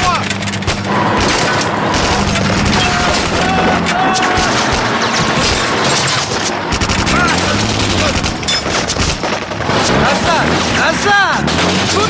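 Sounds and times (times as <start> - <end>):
armoured car engine drone: 0.0 - 12.0
rapid rifle and machine-gun fire: 0.0 - 12.0
turret gun firing: 0.0 - 12.0.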